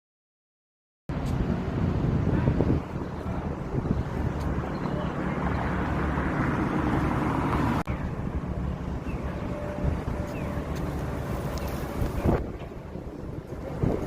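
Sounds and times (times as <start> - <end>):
wind buffeting microphone: 1.1 - 14.0.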